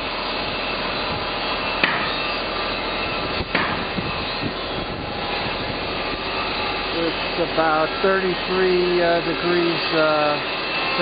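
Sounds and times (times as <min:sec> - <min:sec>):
steady machine drone: 0:00.0 - 0:11.0.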